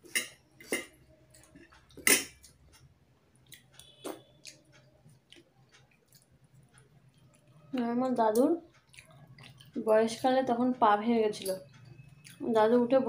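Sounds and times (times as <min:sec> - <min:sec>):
wet chewing and smacking: 0:00.1 - 0:10.7, 0:11.3 - 0:12.5.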